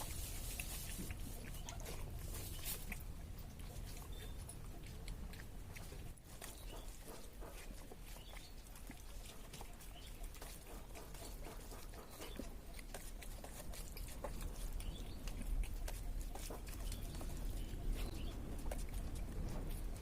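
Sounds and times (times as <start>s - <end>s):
low steady hum: 0.0s - 20.0s
person chewing and smacking: 0.0s - 20.0s.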